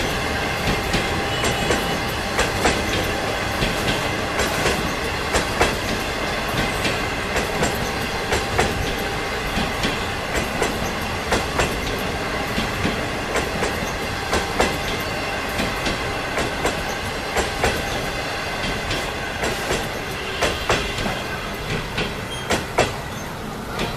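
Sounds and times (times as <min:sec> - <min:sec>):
train rumbling past: 0:00.0 - 0:23.9
wheel clacks over rail joints: 0:00.6 - 0:23.9.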